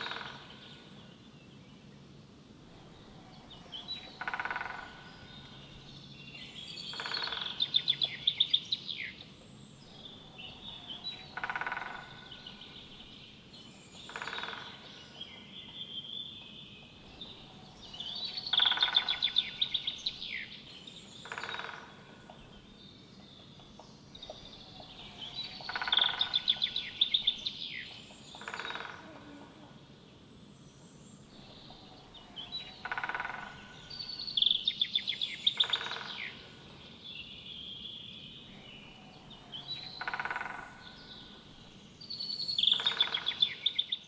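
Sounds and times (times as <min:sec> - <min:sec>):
woodpecker calling: 0:00.0 - 0:01.2, 0:02.7 - 0:29.7, 0:31.2 - 0:44.0
faint outdoor background: 0:00.0 - 0:44.0.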